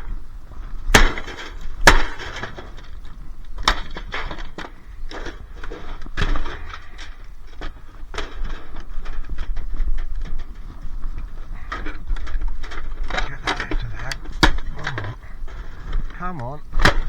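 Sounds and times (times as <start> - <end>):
plastic cracking: 0.0 - 17.0.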